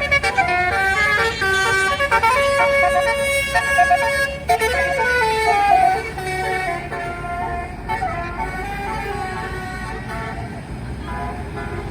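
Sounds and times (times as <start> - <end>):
low traffic rumble: 0.0 - 11.9
musical air horn playing tune: 0.0 - 11.9.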